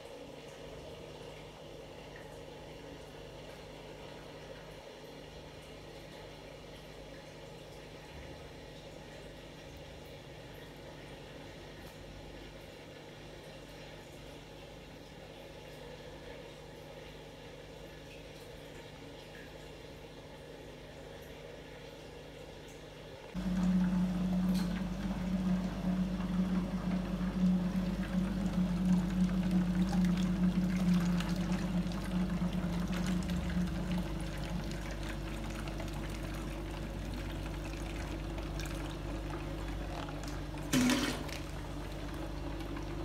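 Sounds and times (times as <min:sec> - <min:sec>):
aquarium air pump humming: 0:00.0 - 0:43.0
water sloshing and bubbling: 0:00.0 - 0:43.0.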